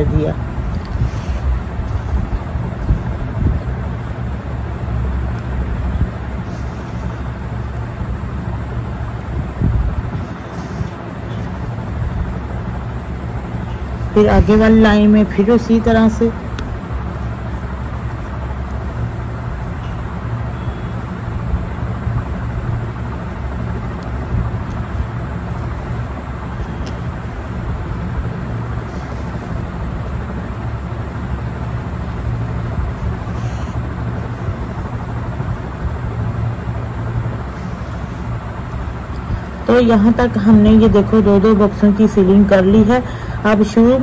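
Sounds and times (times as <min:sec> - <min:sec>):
low background rumble and hum: 0:00.0 - 0:44.0.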